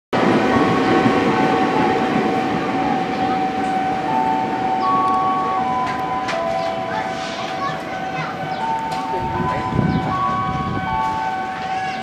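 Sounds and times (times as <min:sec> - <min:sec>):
train rumbling: 0:00.2 - 0:12.0.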